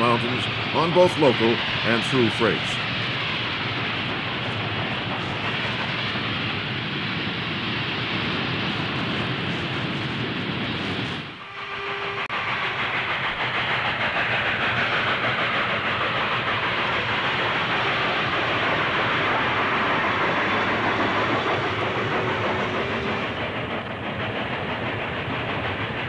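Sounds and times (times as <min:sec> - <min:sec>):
steam hiss: 0:00.0 - 0:26.0
steam locomotive exhaust beat: 0:00.0 - 0:26.0.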